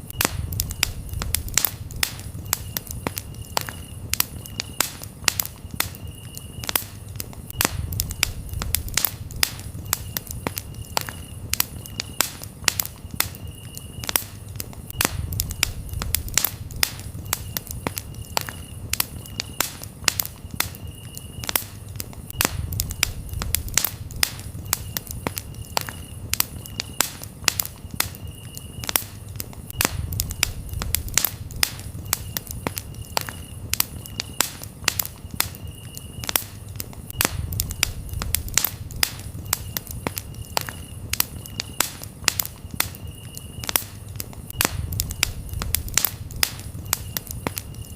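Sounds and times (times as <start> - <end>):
campfire crackling and popping: 0.0 - 47.9
crickets chirping: 0.0 - 47.9.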